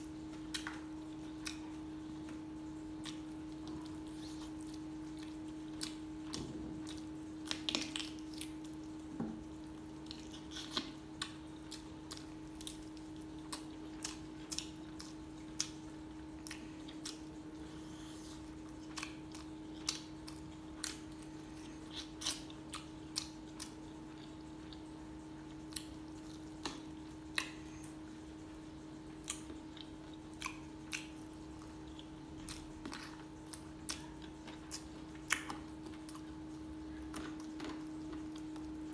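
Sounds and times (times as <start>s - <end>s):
steady low hum: 0.0s - 38.9s
chewing and lip smacking: 0.3s - 38.9s.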